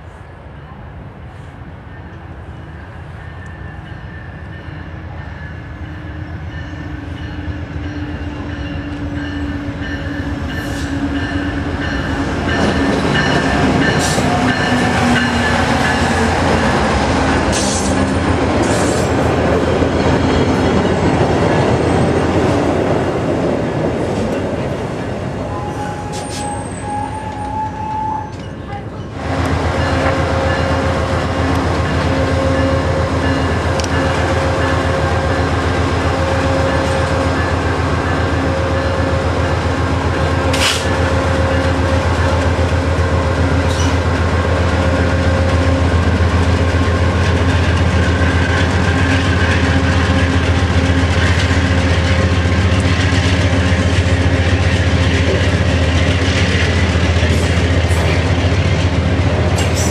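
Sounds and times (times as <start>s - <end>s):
diesel locomotive engine: 0.0s - 59.9s
standing train hum: 0.0s - 59.9s.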